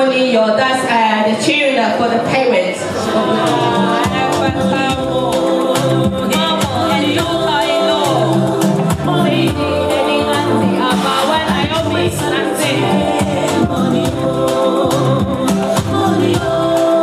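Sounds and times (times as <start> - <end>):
song with singing: 2.6 - 17.0
steady percussion beat: 2.8 - 17.0.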